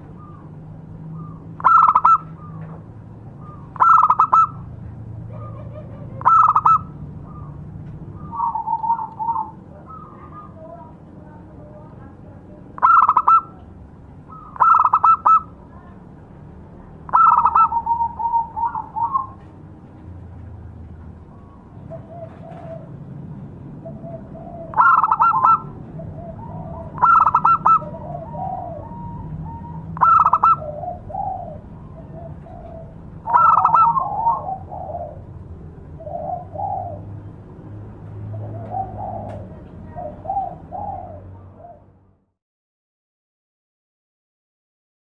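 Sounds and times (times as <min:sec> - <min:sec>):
dove cooing: 0:00.0 - 0:11.0, 0:12.5 - 0:15.6, 0:17.1 - 0:19.6, 0:21.3 - 0:37.3, 0:38.2 - 0:42.2.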